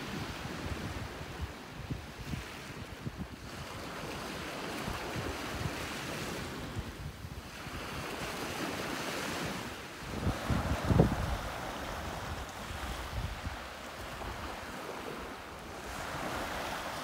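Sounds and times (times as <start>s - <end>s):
small waves washing on sand: 0.0s - 17.0s
wind rumble on microphone: 0.0s - 17.0s.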